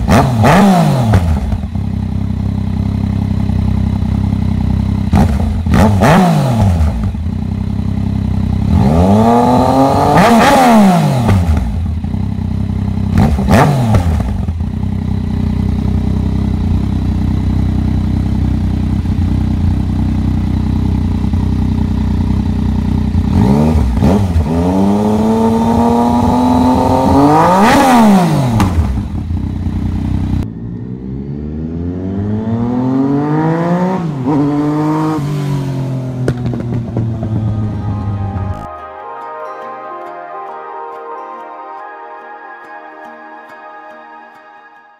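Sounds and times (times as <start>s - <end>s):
motorcycle engine revving: 0.0s - 38.7s
motorcycle accelerating: 0.0s - 38.8s.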